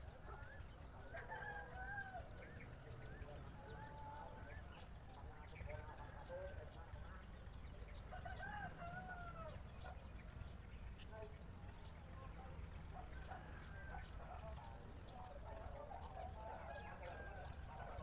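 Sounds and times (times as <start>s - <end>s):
bird chirps: 0.0s - 18.0s
birds chattering: 0.0s - 18.0s.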